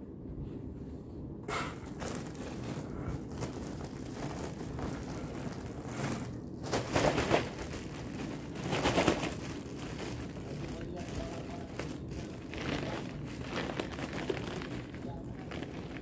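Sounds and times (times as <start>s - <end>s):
plastic bin liner crinkling: 1.5s - 16.0s.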